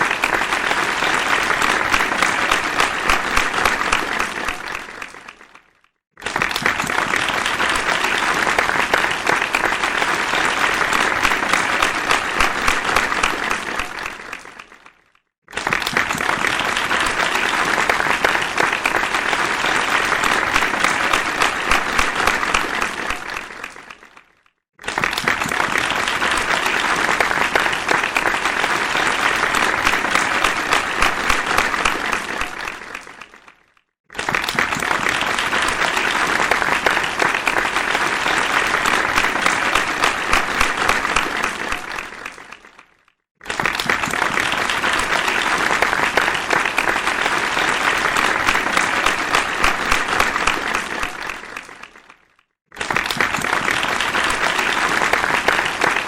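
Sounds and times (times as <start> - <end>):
crowd applauding: 0.0 - 56.0.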